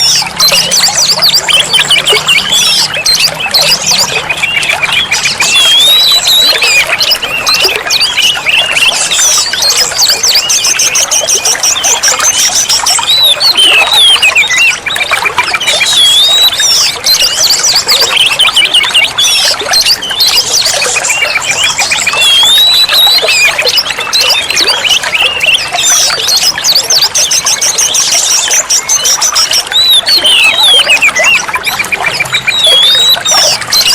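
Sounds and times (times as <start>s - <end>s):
high bird trills: 0.0s - 33.9s
songbird singing: 0.0s - 33.9s.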